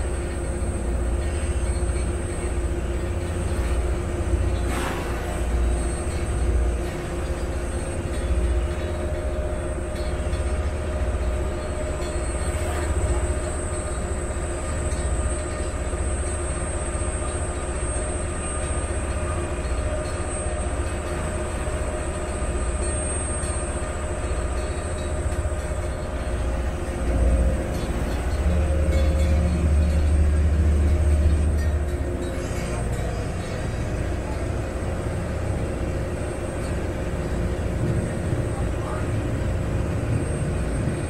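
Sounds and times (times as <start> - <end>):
boat engine droning: 0.0 - 41.0
wind along hull: 0.0 - 41.0.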